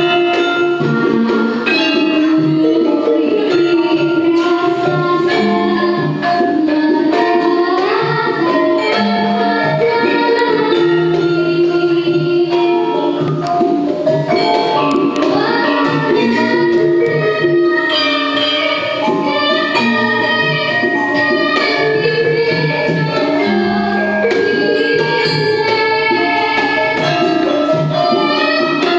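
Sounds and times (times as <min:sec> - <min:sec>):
young person singing: 0:00.0 - 0:13.4, 0:14.2 - 0:28.9
gamelan metallophones ringing: 0:00.0 - 0:28.9
hand drum strokes: 0:00.0 - 0:28.9.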